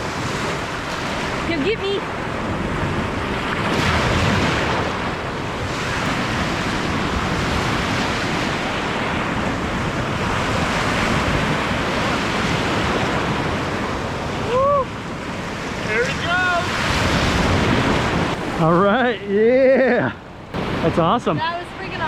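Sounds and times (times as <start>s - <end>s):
surf breaking on beach: 0.0s - 19.1s, 20.5s - 22.0s
wind buffeting microphone: 0.0s - 19.2s.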